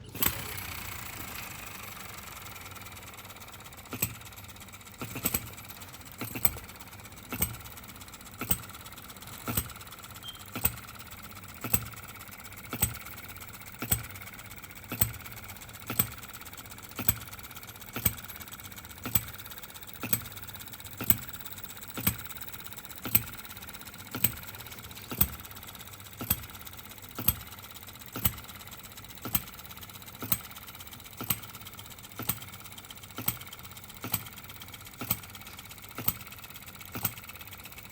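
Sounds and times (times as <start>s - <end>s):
faint mechanical clatter: 0.0s - 37.9s.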